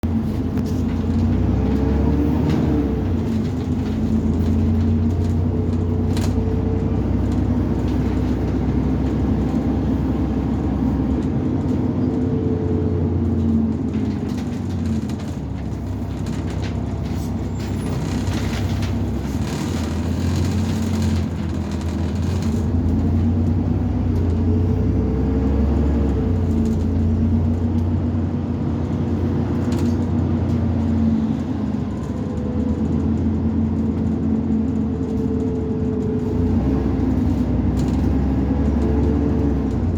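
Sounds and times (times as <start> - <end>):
bus engine accelerating: 0.0 - 39.9.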